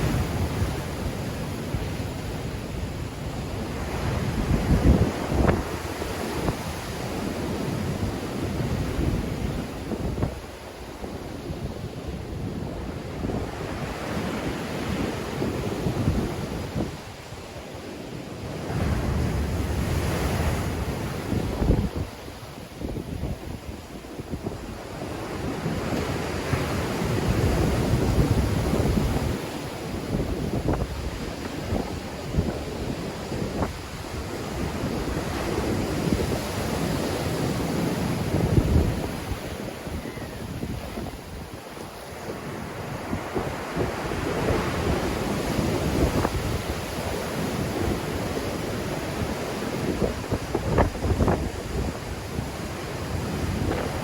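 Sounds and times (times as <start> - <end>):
wind buffeting microphone: 0.0 - 17.2, 18.5 - 54.0
sea waves breaking on shore: 0.0 - 54.0.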